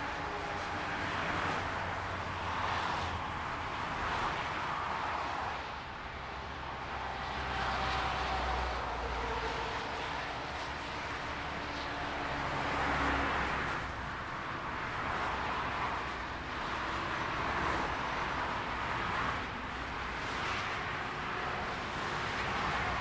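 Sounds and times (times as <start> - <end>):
motorway traffic passing: 0.0 - 23.0.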